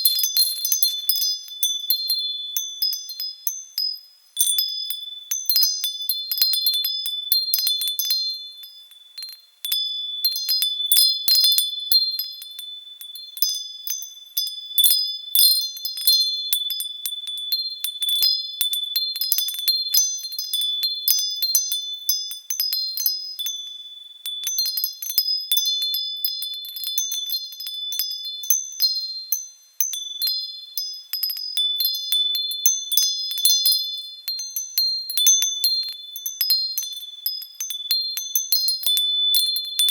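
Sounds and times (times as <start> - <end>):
wind chimes ringing: 0.0 - 39.9.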